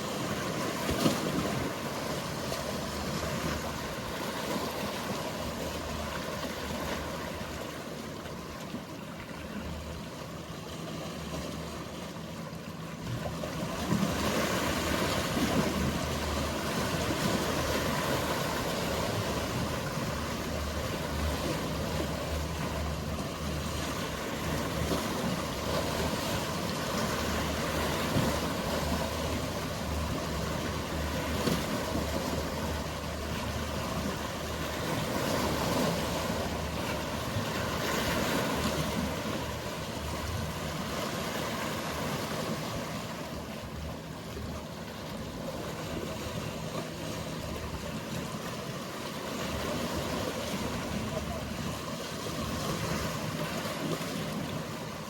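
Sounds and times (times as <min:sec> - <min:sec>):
boat engine humming: 0:00.0 - 0:55.0
waves washing against shore: 0:00.0 - 0:55.0.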